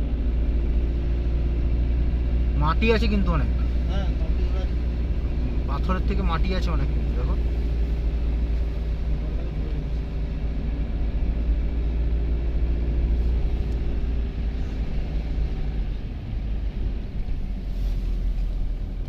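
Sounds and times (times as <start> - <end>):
car engine hum: 0.0 - 19.0
low road rumble: 0.0 - 19.0.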